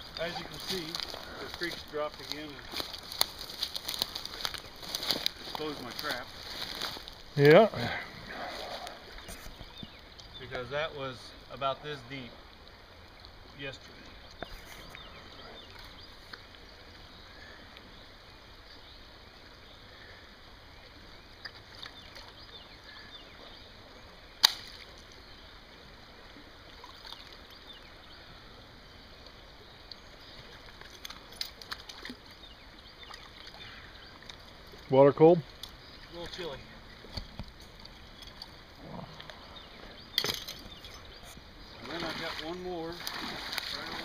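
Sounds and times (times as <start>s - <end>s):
creek water sloshing around legs: 0.0s - 10.9s, 11.5s - 44.0s.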